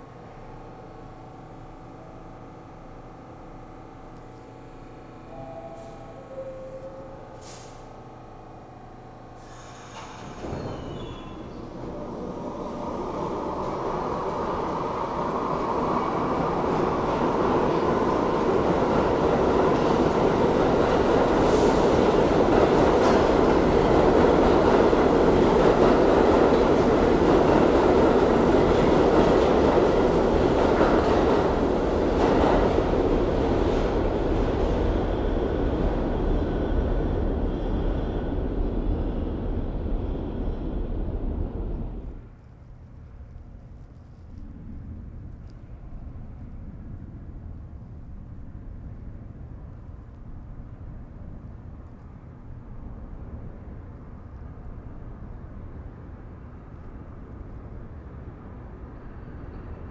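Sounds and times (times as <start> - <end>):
subway train rumbling past: 0.0 - 42.4, 43.1 - 59.9.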